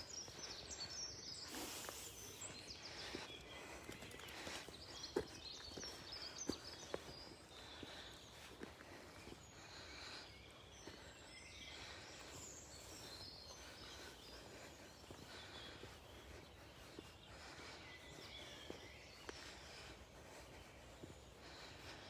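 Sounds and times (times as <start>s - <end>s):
faint songbirds singing: 0.0s - 22.0s.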